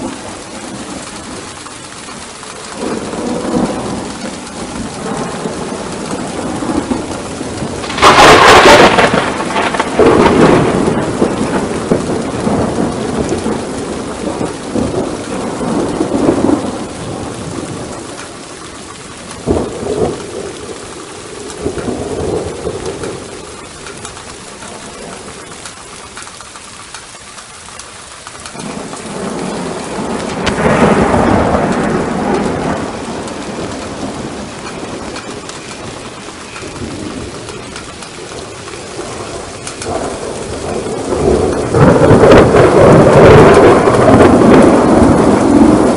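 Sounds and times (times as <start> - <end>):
rolling thunder: 0.0 - 45.9
steady rain: 0.0 - 45.9
sharp thunder crack: 2.8 - 18.5, 19.2 - 25.7, 28.4 - 45.9.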